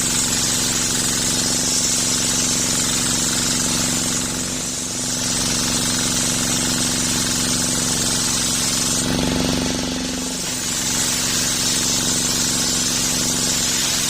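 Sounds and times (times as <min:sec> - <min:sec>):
sawmill engine pulsing: 0:00.0 - 0:14.0
spinning saw hiss: 0:00.0 - 0:14.0.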